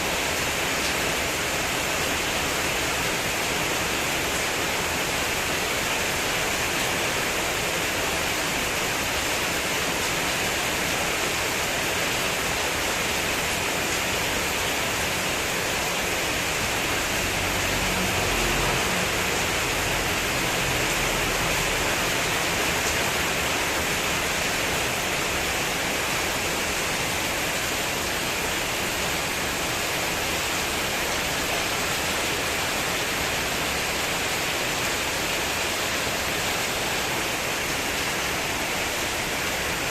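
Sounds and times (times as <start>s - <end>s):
heavy rain on metal roof: 0.0s - 39.9s
wind: 0.0s - 39.9s.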